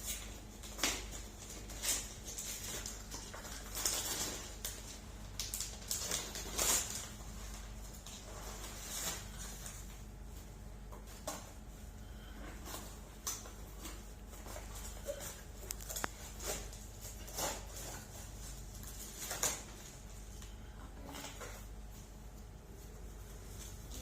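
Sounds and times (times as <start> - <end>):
wrapping paper crinkling: 0.0 - 20.6, 21.2 - 24.0.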